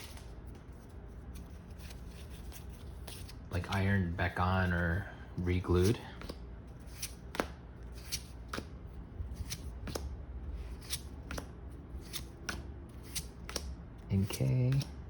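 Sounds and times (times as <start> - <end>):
trading cards being flipped: 0.0 - 3.9, 5.8 - 15.0.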